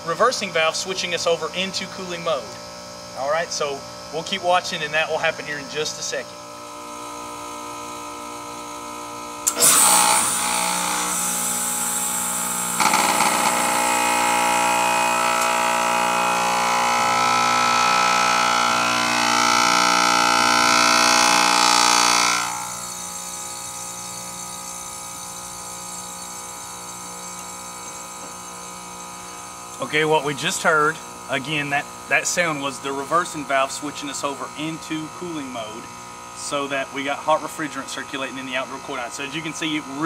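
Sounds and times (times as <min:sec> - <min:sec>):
compressor humming: 0:00.0 - 0:40.0.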